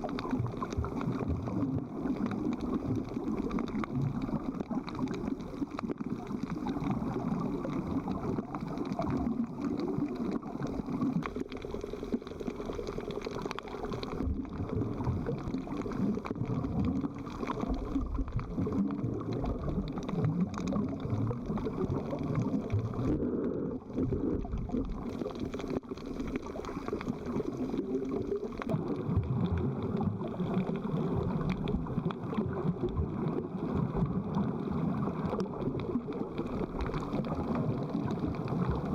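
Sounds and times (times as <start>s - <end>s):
rushing gurgling water: 0.0s - 38.9s.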